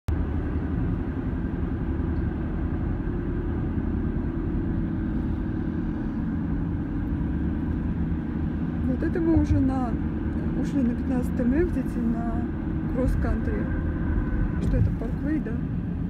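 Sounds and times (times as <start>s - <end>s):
car tyre and engine rumble: 0.1s - 16.0s.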